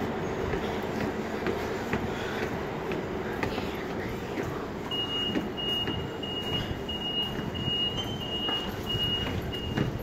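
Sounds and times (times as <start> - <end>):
footsteps on concrete stairs: 0.0 - 10.0
station rumble: 0.0 - 10.0.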